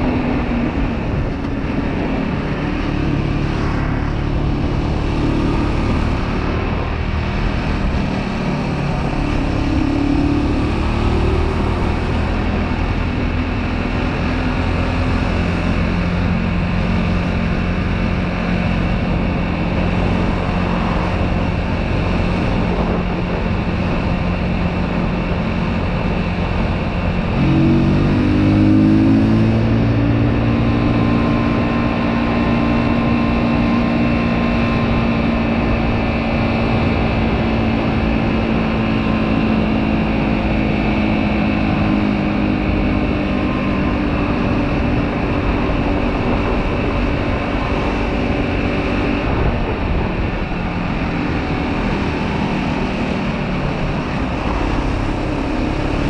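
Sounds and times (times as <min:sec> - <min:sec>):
wind and road rush: 0:00.0 - 0:56.0.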